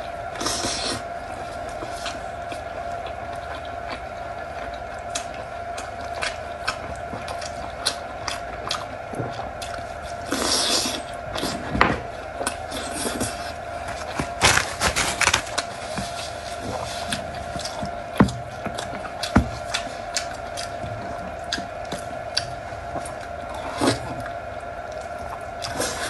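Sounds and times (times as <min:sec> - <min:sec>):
wet chewing and smacking: 0:00.3 - 0:26.0.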